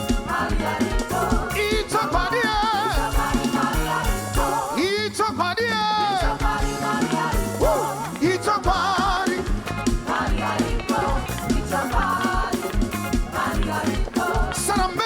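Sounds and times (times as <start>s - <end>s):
bass drum beat: 0.0s - 5.0s, 6.2s - 15.0s
upbeat gospel music: 0.0s - 15.0s.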